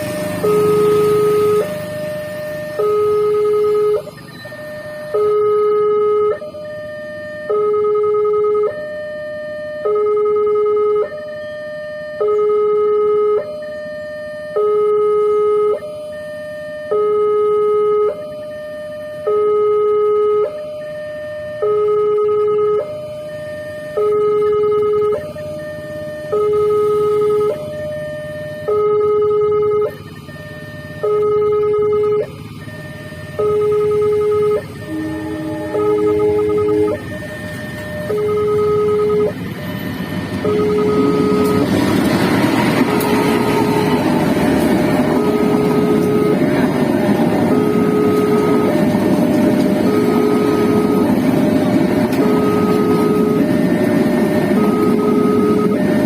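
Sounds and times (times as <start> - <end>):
two-tone level crossing alarm: 0.0 - 56.0.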